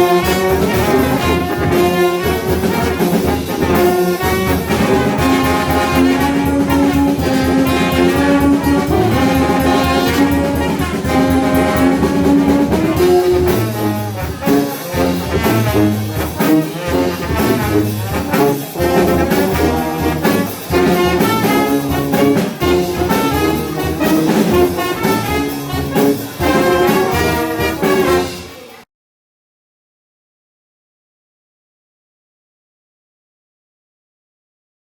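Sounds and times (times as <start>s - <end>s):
percussion hits: 0.0s - 28.2s
brass band playing: 0.0s - 28.8s.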